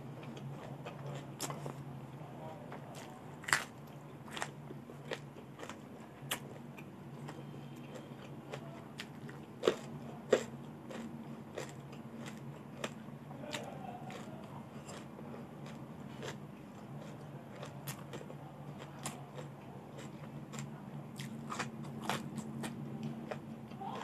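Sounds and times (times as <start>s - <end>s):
chewing crisp raw vegetables: 0.0s - 24.0s.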